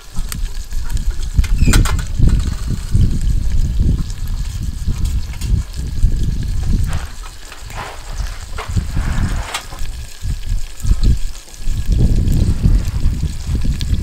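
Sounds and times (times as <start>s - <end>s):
chicken sizzling in oil: 0.0s - 14.0s
wind on microphone: 0.0s - 14.0s.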